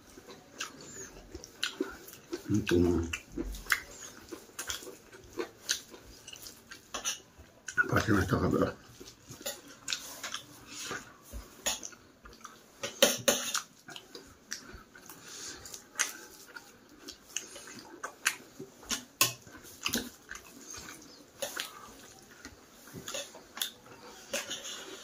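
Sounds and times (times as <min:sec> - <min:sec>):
fingers mixing food on metal plate: 0:00.1 - 0:25.0
wet chewing smacks: 0:00.2 - 0:08.0, 0:08.9 - 0:25.0.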